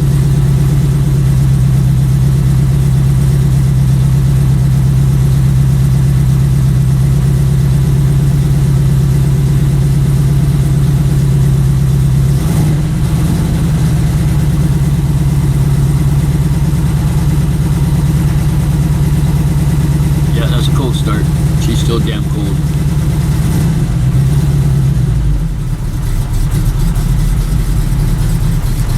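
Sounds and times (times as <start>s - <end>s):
engine idling: 0.0s - 28.9s.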